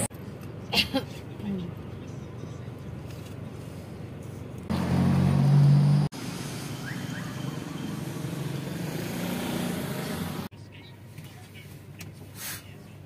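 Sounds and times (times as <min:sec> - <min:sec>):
car engine and road hum: 0:00.0 - 0:13.0
street traffic noise: 0:00.0 - 0:13.0.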